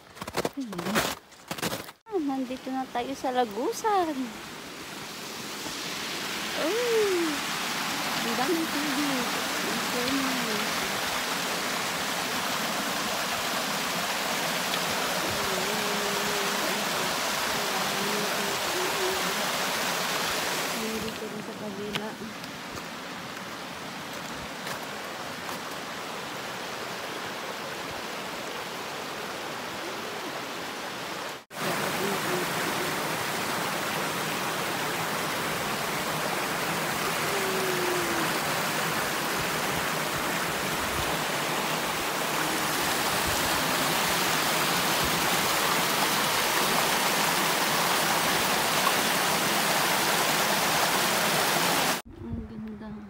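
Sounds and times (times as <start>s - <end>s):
creek water rushing and splashing: 2.1s - 52.1s.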